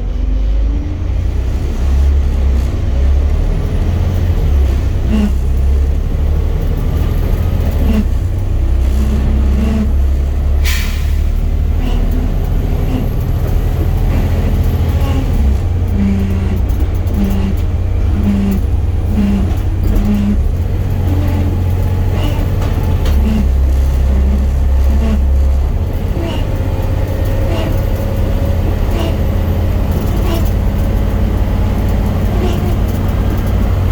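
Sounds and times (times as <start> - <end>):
bus engine droning: 0.0 - 33.9.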